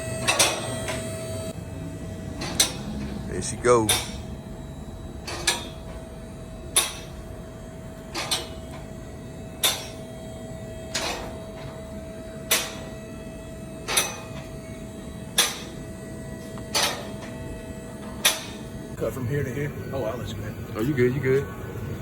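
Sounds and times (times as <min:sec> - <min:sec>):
lift motor hum: 0:00.0 - 0:22.0.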